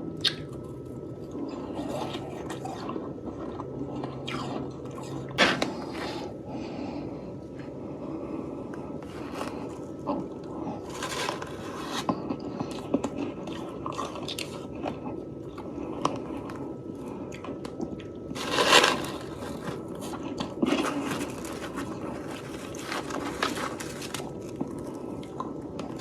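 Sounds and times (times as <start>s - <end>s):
person chewing crunchy frost: 0.0s - 26.0s.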